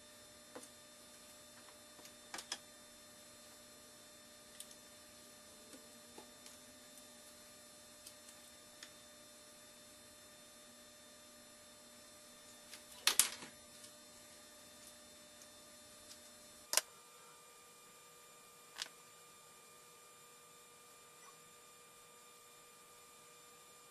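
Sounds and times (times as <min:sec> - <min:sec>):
faint electrical hum: 0:00.0 - 0:23.9.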